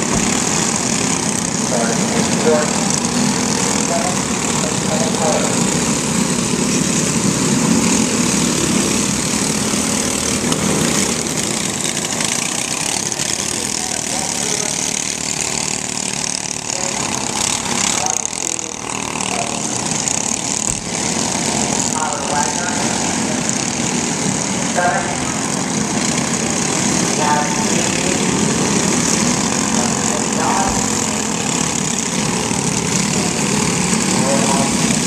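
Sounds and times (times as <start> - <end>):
small race car engines: 0.0 - 35.0.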